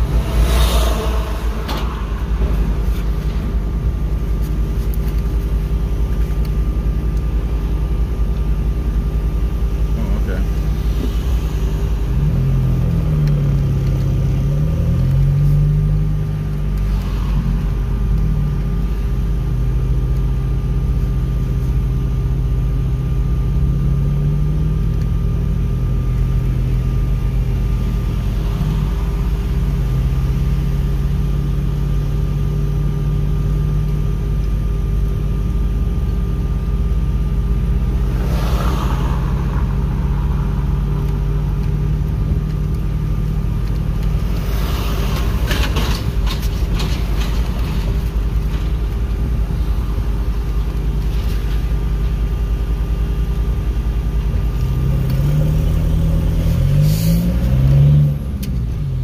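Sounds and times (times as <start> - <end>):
car engine: 0.0 - 59.0
road rumble: 0.0 - 59.0.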